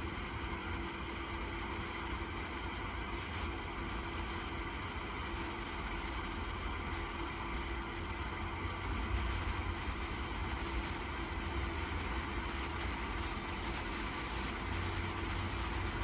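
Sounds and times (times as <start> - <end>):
welding machine hum: 0.0 - 16.0.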